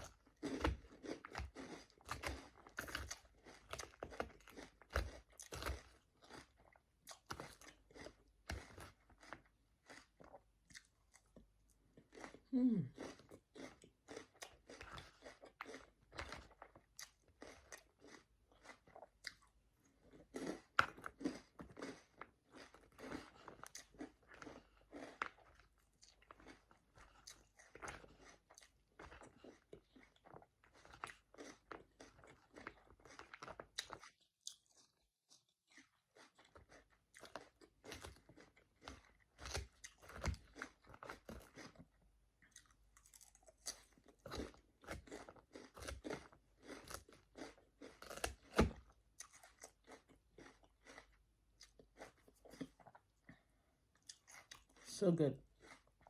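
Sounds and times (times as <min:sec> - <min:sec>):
chewing and crunching salad: 0:00.0 - 0:56.0.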